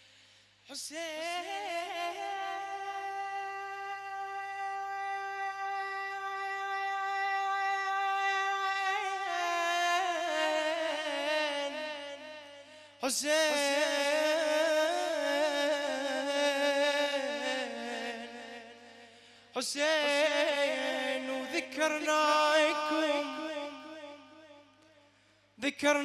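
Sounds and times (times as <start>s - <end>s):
man chanting a lamentation: 0.7s - 19.0s, 19.6s - 24.6s, 25.6s - 26.0s.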